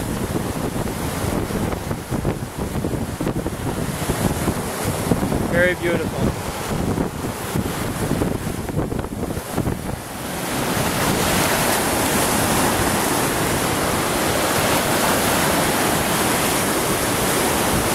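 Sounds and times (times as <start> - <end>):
waves breaking on rocks: 0.0 - 17.9
wind buffeting microphone: 0.0 - 17.9.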